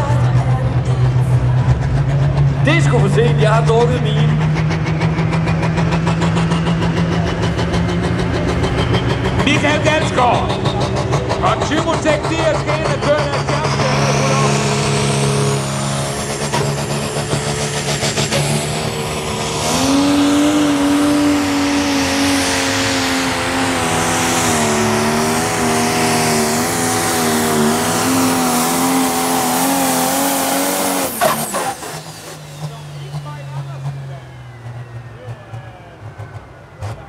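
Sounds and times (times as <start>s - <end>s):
diesel engine running hard: 0.0s - 37.0s.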